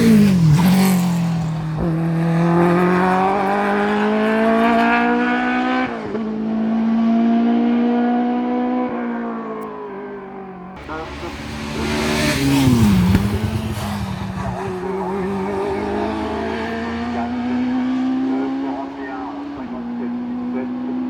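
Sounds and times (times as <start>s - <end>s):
race car engine accelerating: 0.0s - 21.0s.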